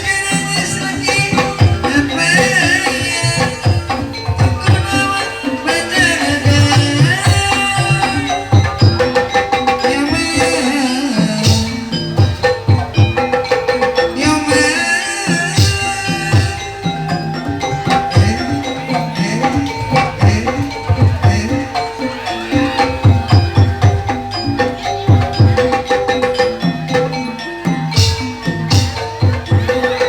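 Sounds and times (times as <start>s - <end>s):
hand drums beating: 0.0s - 30.0s
ringing metal percussion: 0.0s - 30.0s
wavering melody line: 0.0s - 30.0s.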